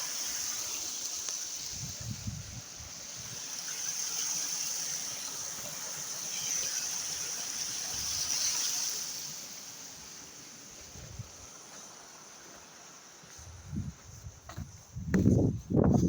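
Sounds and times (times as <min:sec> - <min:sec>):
water running and trickling: 0:00.0 - 0:13.3.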